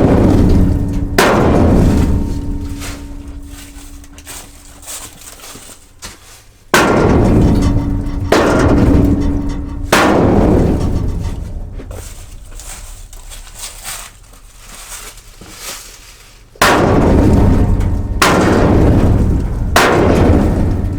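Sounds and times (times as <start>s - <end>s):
hammer striking steel: 0.0s - 5.6s, 6.7s - 14.1s, 16.6s - 20.9s.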